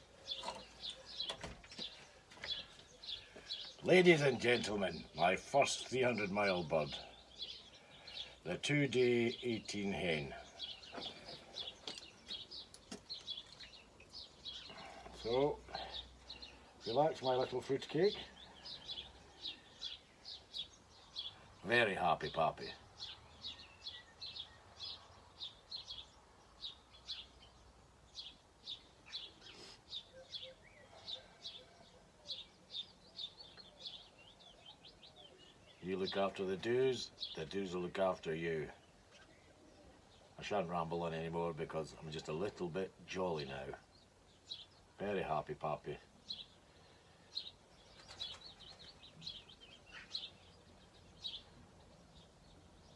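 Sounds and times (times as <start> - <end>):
bird chirping: 0.0 - 52.9
faint steady background: 0.0 - 52.9.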